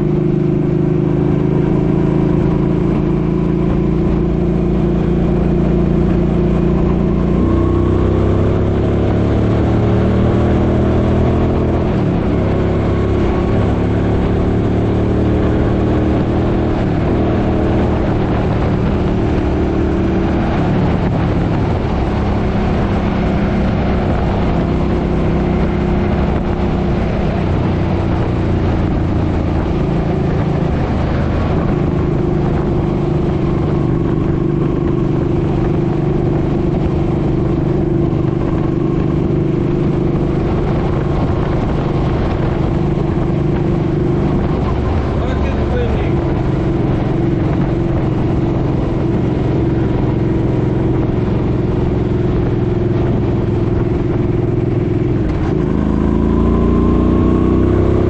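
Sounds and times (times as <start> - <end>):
motorcycle engine running: 0.0 - 58.0
rushing wind noise: 0.0 - 58.0.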